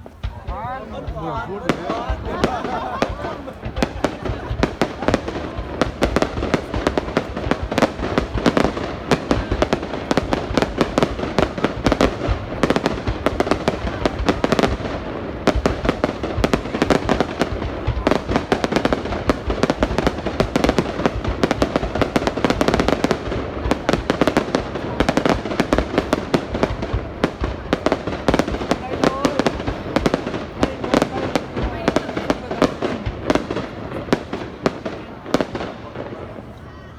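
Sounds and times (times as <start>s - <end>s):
fireworks bangs and crackles: 0.0s - 36.9s.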